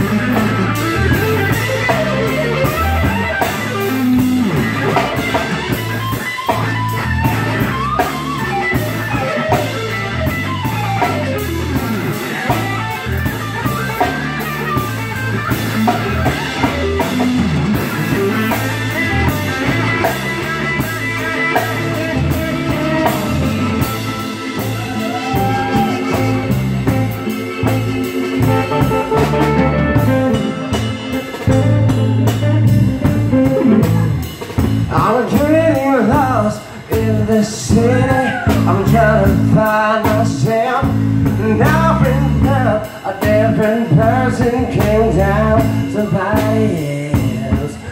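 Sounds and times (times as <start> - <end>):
drum kit: 0.0 - 47.9
electric guitar bending notes: 0.0 - 47.9
keyboard: 0.0 - 47.9.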